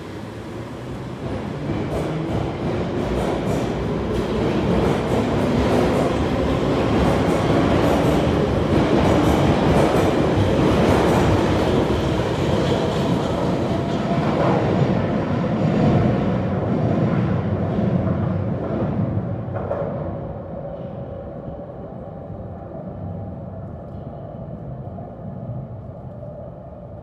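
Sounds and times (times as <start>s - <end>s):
underground train accelerating: 0.0s - 27.0s.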